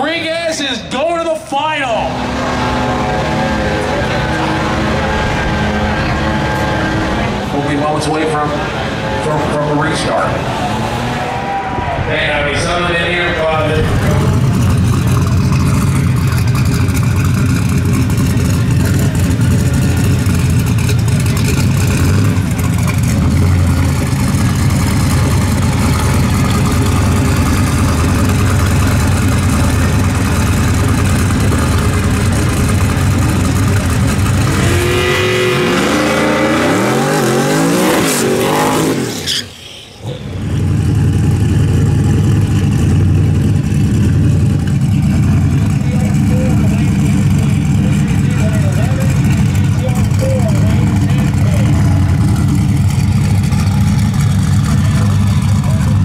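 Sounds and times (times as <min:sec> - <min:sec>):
turbocharged engine revving: 0:01.7 - 0:56.0.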